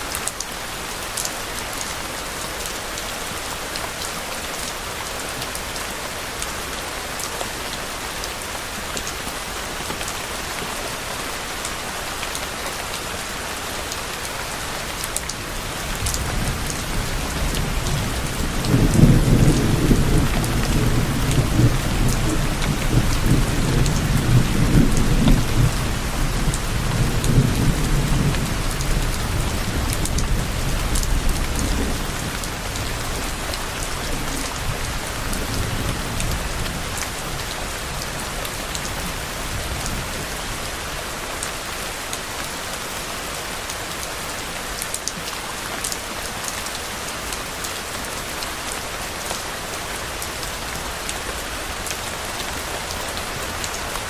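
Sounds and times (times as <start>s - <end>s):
rain drops ticking: 0.0s - 54.0s
rain falling: 0.0s - 54.0s.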